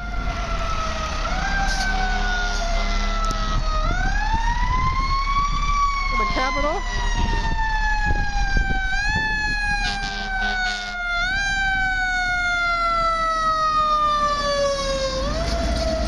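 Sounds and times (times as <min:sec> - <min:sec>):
siren falling tone: 0:00.0 - 0:16.0.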